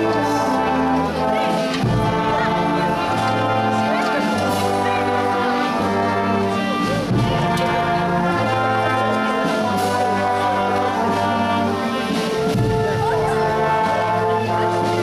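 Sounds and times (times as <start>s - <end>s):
brass band playing chords: 0.0s - 15.0s
tuba bass line: 0.0s - 15.0s.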